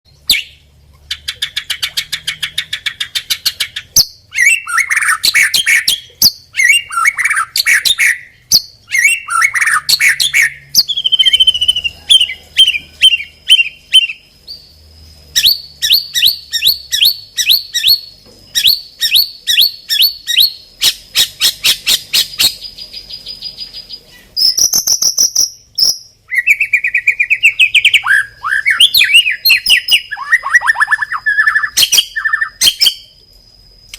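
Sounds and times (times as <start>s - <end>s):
songbird singing varied song: 0.1s - 33.9s.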